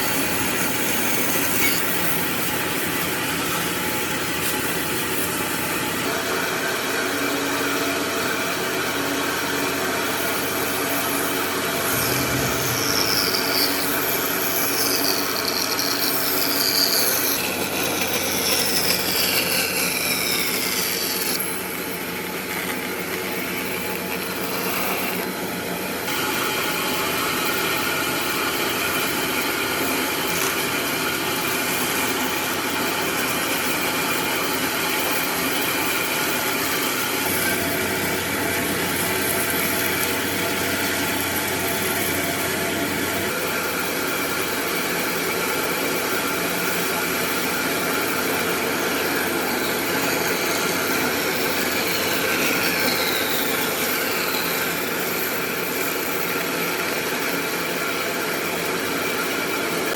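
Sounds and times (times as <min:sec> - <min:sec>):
power tool running: 0:00.0 - 0:59.9.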